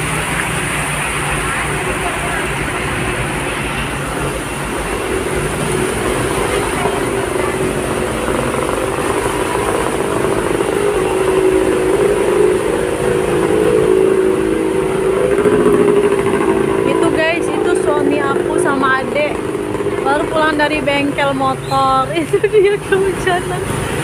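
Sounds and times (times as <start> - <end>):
heavy rain: 0.0 - 24.0
tyres sloshing through floodwater: 0.0 - 24.0
vehicle engines running: 0.0 - 24.0.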